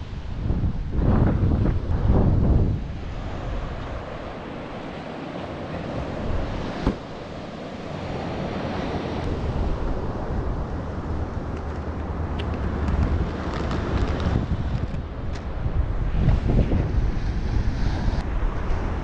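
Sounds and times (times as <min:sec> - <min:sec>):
ocean surf washing: 0:00.0 - 0:19.0
wind buffeting microphone: 0:00.0 - 0:19.0.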